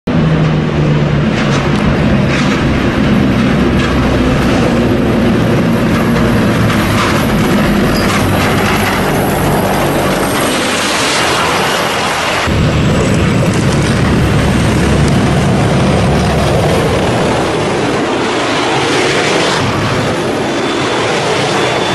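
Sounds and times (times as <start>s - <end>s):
steel tracks clattering: 0.1s - 21.9s
tank turbine engines rushing: 0.1s - 21.9s.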